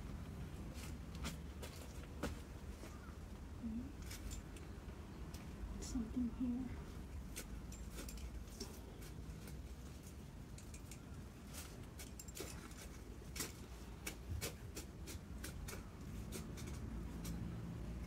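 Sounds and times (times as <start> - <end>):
leaves and stems rustling: 0.0 - 18.0.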